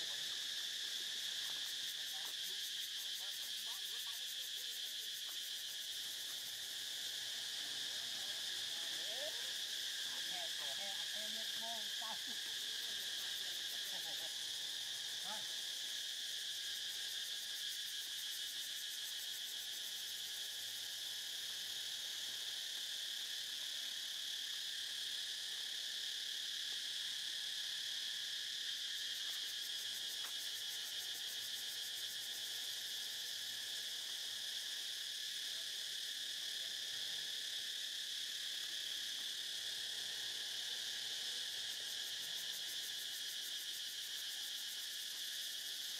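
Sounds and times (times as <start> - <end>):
insect chorus buzzing: 0.0 - 45.9.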